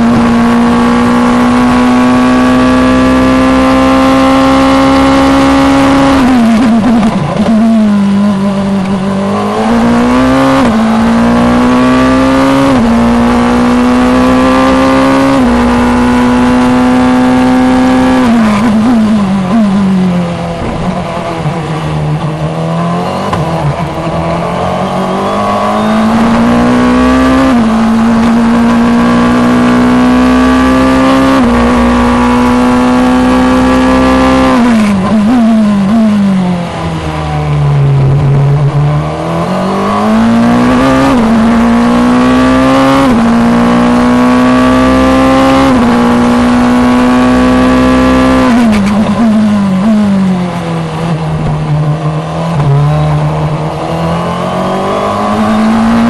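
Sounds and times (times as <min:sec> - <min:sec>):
racing car engine shifting gears: 0:00.0 - 0:56.0.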